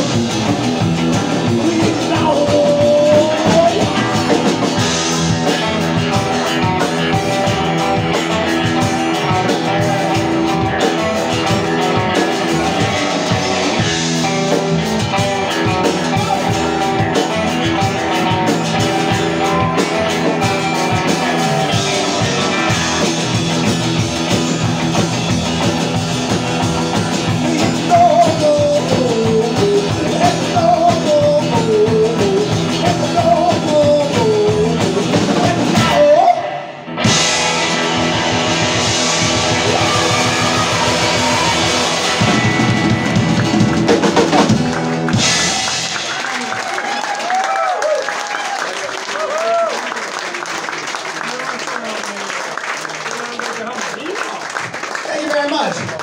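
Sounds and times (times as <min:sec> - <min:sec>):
falling sliding guitar notes: 0:00.0 - 0:46.4
live country rock band: 0:00.0 - 0:56.0.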